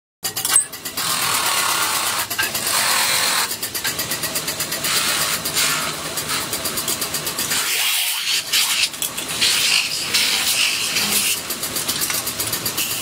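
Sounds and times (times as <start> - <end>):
tool scraping spinning metal: 0.2 - 13.0
low motor hum: 0.4 - 13.0.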